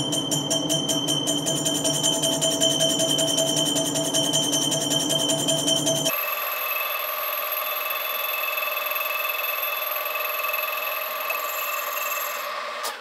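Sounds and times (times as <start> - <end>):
lathe cut high-pitched ringing: 0.0 - 13.0.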